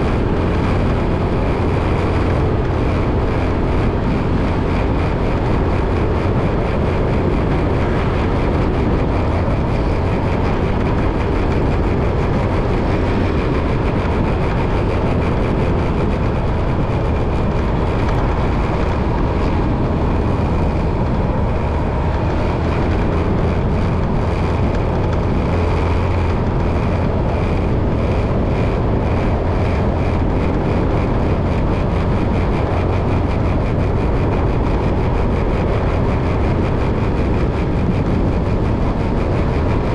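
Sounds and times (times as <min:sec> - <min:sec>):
vehicle driving road rumble: 0:00.0 - 0:39.9.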